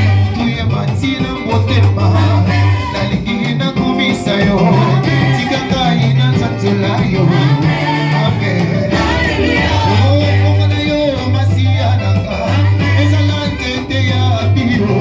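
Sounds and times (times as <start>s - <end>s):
bass guitar: 0.0s - 15.0s
people singing: 0.0s - 15.0s
worship band playing: 0.0s - 15.0s.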